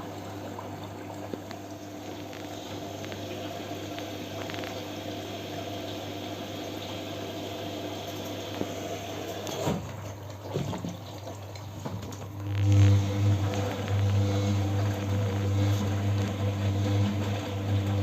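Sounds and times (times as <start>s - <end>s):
washing machine hum: 0.0s - 18.0s
water running into drum: 0.0s - 18.0s.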